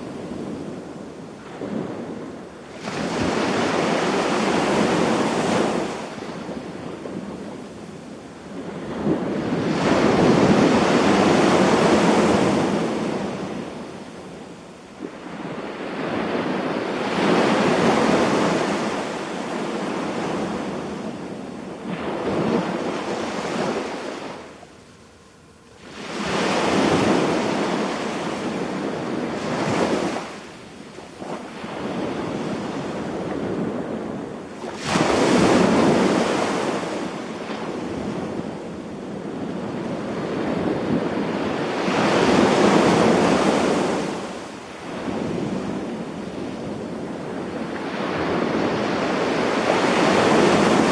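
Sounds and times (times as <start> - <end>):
sea waves breaking on beach: 0.0 - 7.9, 8.5 - 24.6, 25.8 - 50.9.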